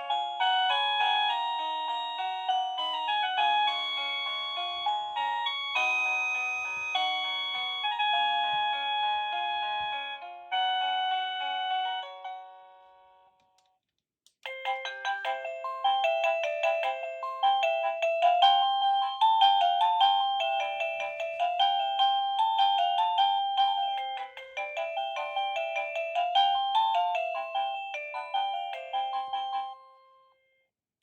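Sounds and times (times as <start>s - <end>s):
doorbell chime tune: 0.0s - 13.2s, 14.5s - 30.7s.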